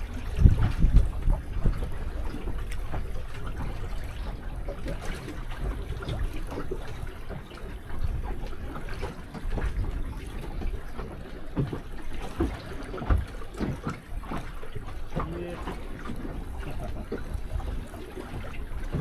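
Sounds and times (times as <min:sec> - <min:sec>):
small splashes and knocks: 0:00.0 - 0:19.0
water lapping against boat hull: 0:00.0 - 0:19.0.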